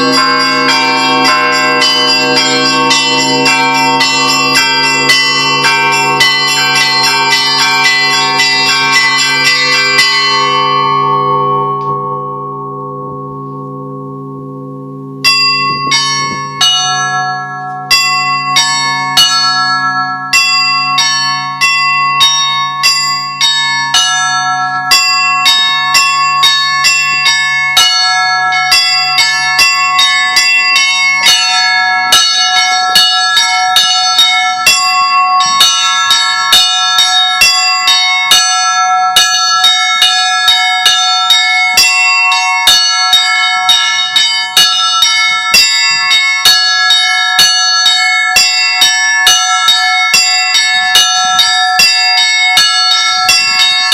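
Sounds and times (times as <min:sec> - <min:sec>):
small bells ringing rapidly: 0:00.0 - 0:13.5, 0:15.1 - 0:53.9
low hum of large bell: 0:00.0 - 0:53.9.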